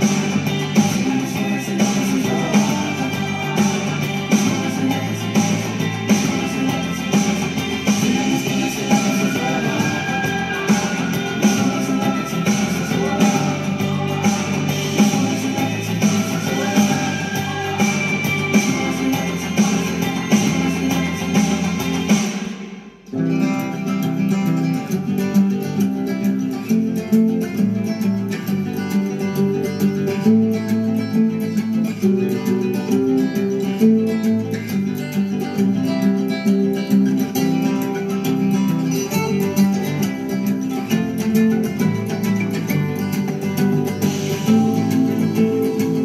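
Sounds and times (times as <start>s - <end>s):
plucked acoustic guitar music: 0.0s - 46.0s.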